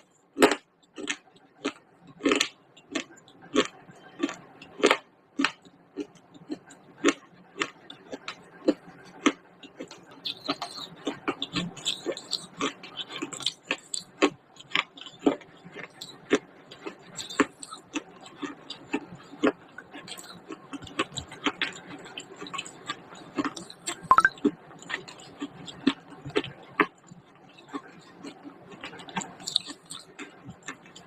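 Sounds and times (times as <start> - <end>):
baked clay crunching when chewed: 0.4 - 31.0.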